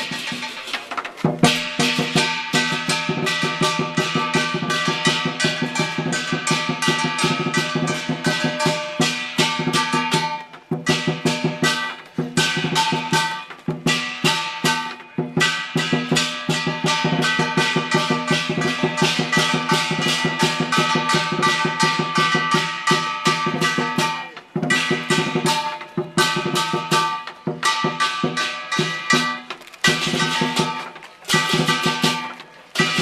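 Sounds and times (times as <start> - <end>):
cymbals crashing: 0.0 - 33.0
drum: 0.0 - 33.0
gong: 1.5 - 30.8.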